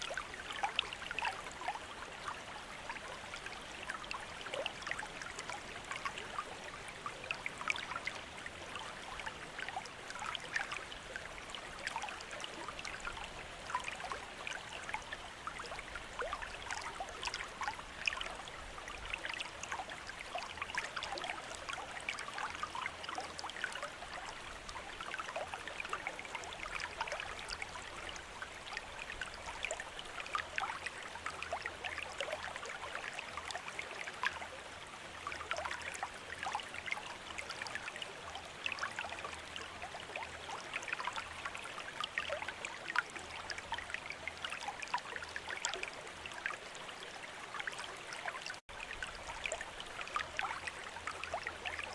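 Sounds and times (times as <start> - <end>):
fountain water trickling and splashing: 0.0 - 51.9.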